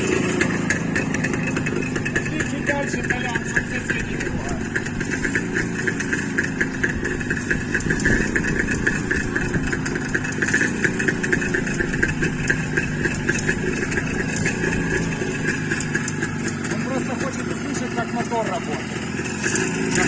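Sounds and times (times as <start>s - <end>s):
two-stroke motorcycle engine idling: 0.0s - 20.0s.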